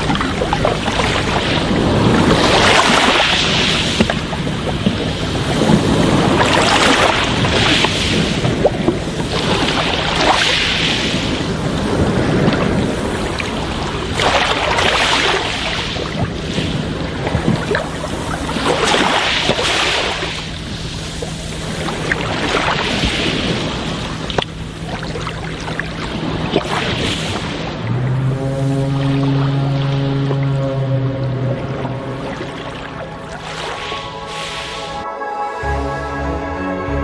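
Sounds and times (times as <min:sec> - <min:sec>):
wind over water: 0:00.0 - 0:35.1
sea waves washing in: 0:00.0 - 0:37.0.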